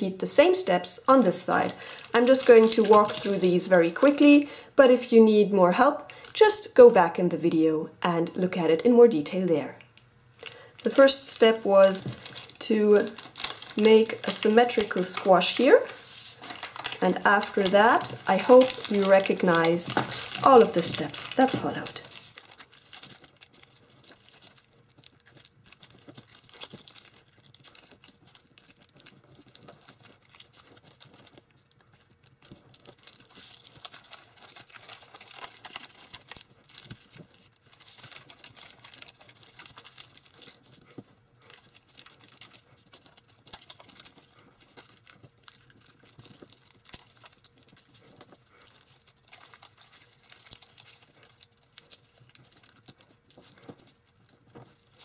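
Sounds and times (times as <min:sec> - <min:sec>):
foil paper crinkling: 0:00.4 - 0:04.6, 0:10.4 - 0:55.0.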